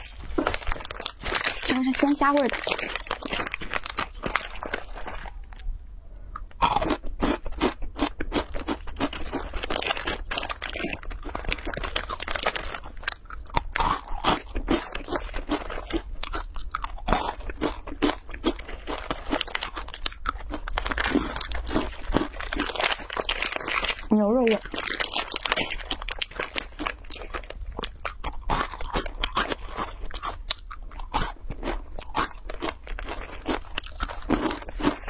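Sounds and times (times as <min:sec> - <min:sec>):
crunchy snack chewing: 0:00.0 - 0:05.7, 0:06.3 - 0:35.0.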